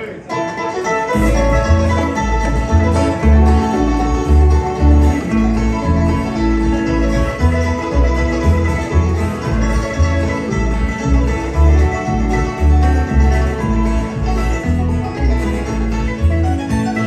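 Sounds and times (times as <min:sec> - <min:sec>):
bluegrass band playing: 0:00.0 - 0:17.0
upright bass thumping: 0:01.2 - 0:17.0.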